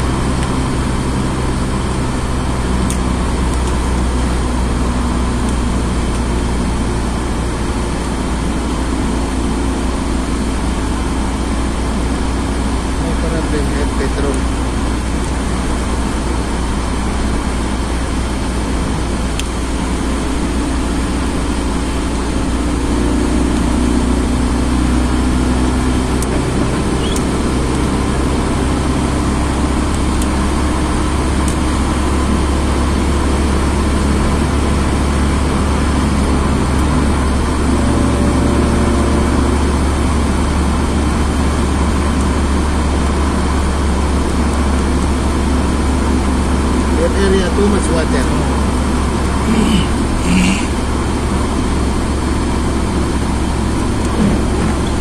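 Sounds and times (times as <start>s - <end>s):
car road rumble: 0.0s - 55.0s.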